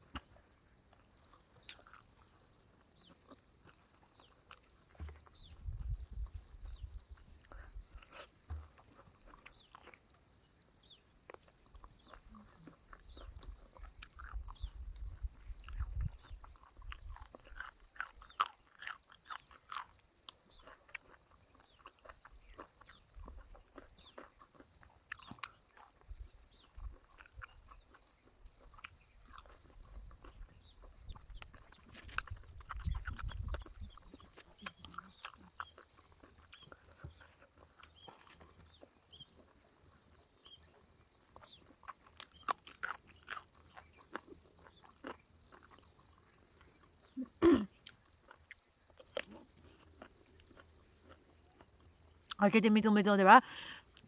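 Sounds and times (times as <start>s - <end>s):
person chewing with mouth clicks: 0.9s - 10.2s, 11.3s - 40.1s, 40.7s - 52.4s.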